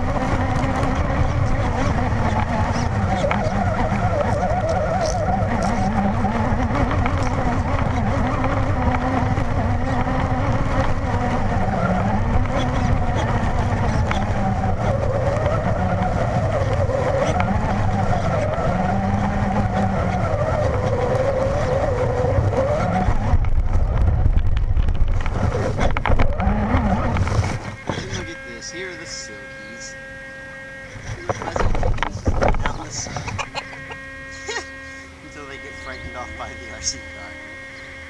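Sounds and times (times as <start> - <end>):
rc truck motor whining: 0.0 - 38.0.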